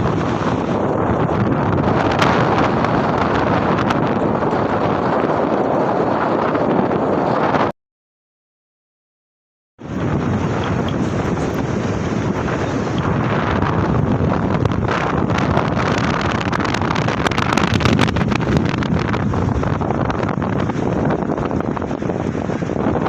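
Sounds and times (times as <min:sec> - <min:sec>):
waves rushing: 0:00.0 - 0:06.5, 0:09.8 - 0:23.0
storm wind buffeting microphone: 0:00.0 - 0:07.7, 0:09.8 - 0:23.0.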